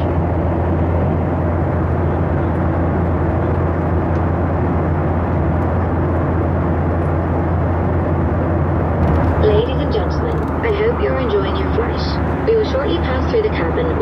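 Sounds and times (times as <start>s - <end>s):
airplane cabin airflow rush: 0.0s - 14.0s
deep even hum: 0.0s - 14.0s.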